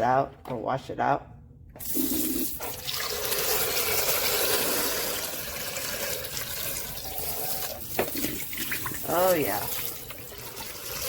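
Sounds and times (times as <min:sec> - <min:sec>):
faucet water running into sink: 0:01.8 - 0:11.0.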